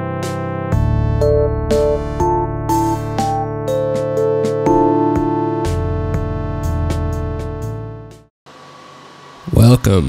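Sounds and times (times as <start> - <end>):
keyboard instrumental music: 0.0 - 8.3.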